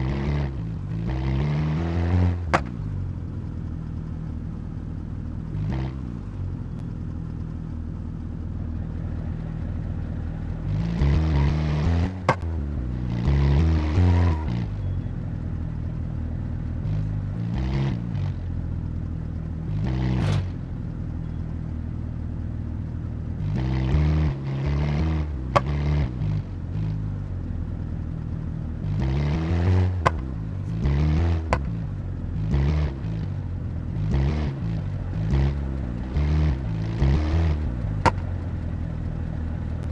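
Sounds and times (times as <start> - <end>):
engine throttle blips: 0.0 - 39.9
sharp exhaust cracks: 0.0 - 39.9
race car engine idling: 2.3 - 11.5, 14.2 - 23.6, 25.2 - 29.1, 29.9 - 39.9.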